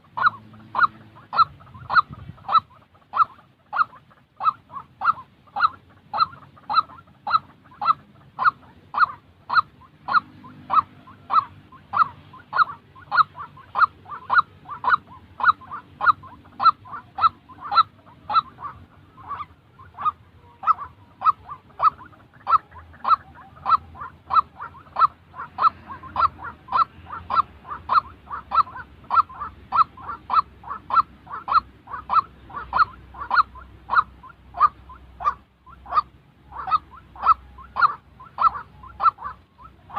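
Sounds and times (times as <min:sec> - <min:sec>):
bird calling: 0:00.0 - 0:39.9.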